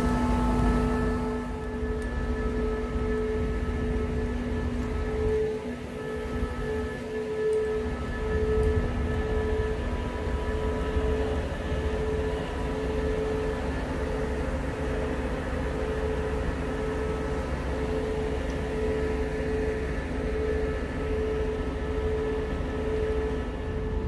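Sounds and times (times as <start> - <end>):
rail vehicle low rumble: 0.0 - 24.0.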